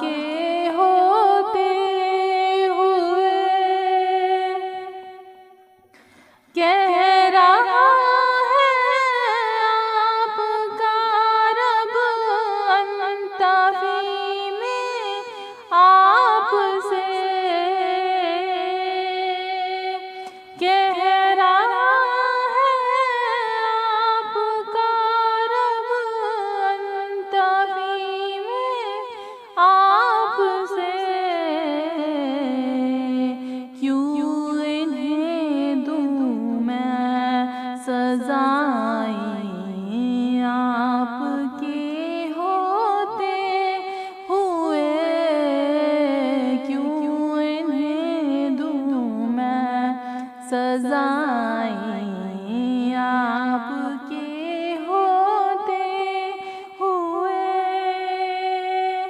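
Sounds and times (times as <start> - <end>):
woman singing unaccompanied: 0.0 - 5.2, 6.5 - 59.0.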